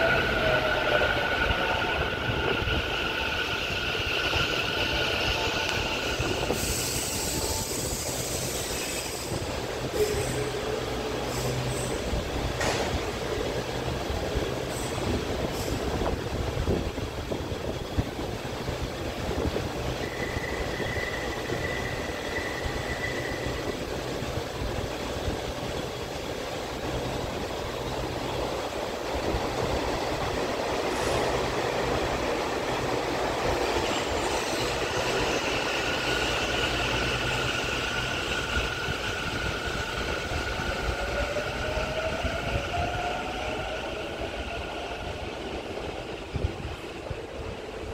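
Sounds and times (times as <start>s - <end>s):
train rumble: 0.0s - 47.9s.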